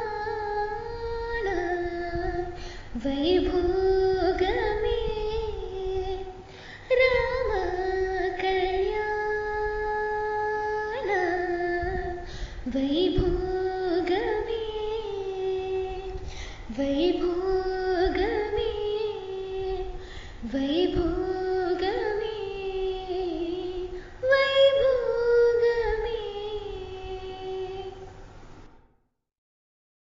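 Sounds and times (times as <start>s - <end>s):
woman singing long held notes: 0.0s - 28.2s.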